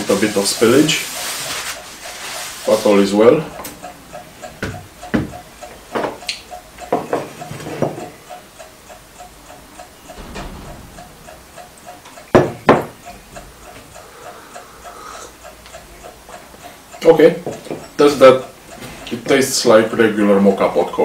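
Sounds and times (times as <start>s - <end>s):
clock ticking fast: 0.0s - 21.0s.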